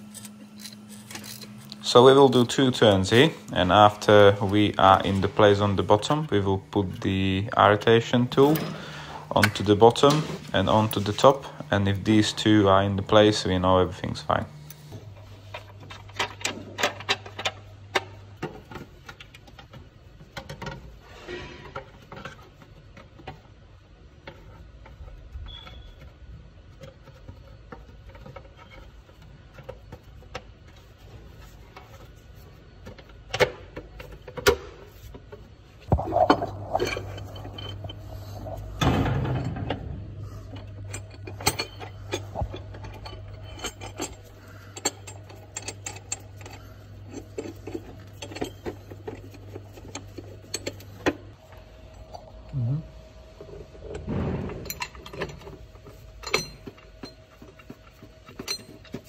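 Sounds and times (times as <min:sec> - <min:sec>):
tools and metal parts clinking: 0:00.0 - 0:23.5, 0:24.2 - 0:52.6, 0:53.3 - 0:59.0
steady low hum: 0:00.0 - 0:59.0.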